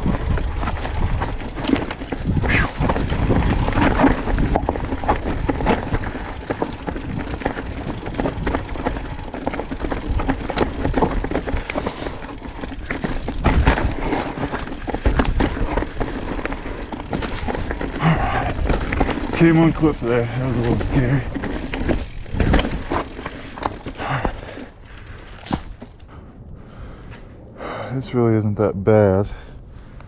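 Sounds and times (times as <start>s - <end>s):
mountain bike rattling over rock: 0.0s - 26.1s.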